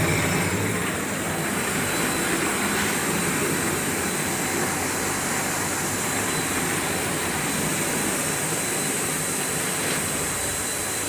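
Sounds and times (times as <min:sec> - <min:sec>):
production line machinery hissing: 0:00.0 - 0:11.0.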